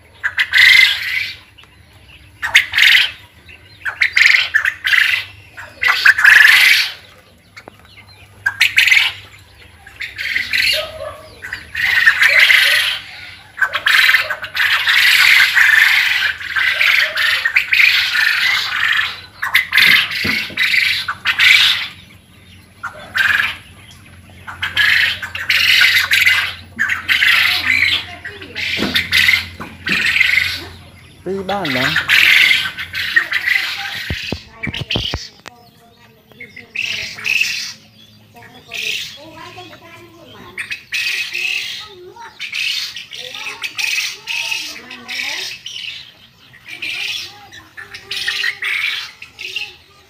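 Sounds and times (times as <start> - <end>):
young quail chirps and squawks: 0.0 - 50.0.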